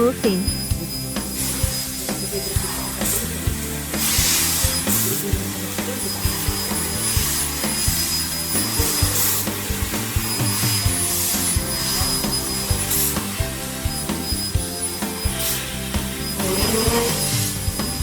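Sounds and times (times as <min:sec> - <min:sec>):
background music with a beat: 0:00.0 - 0:18.0
bursts of hiss: 0:00.0 - 0:18.0.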